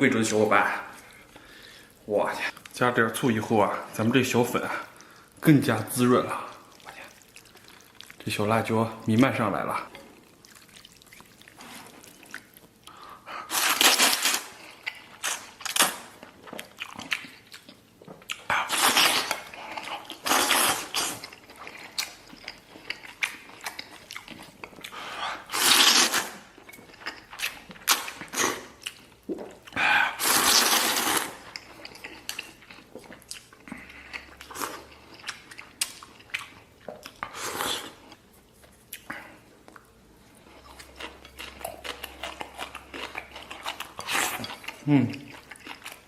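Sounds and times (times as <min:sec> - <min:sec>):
person chewing noodles: 0:06.4 - 0:08.2, 0:09.9 - 0:46.0.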